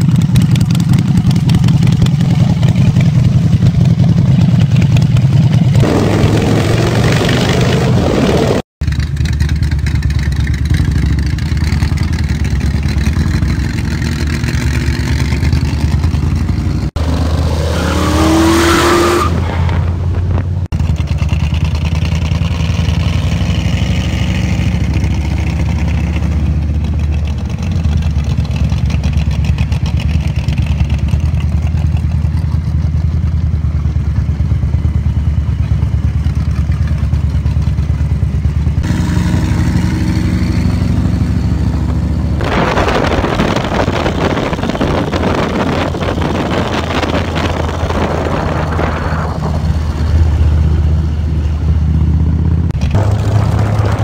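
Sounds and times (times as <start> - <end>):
engine revving: 0.0 - 8.7, 10.7 - 30.8, 38.7 - 54.0
hot rod engines rumbling: 0.0 - 54.0.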